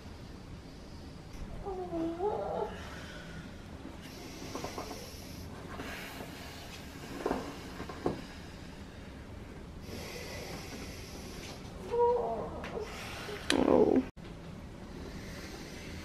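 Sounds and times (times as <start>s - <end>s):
woman breathing heavily: 0.1s - 14.0s, 14.9s - 16.0s.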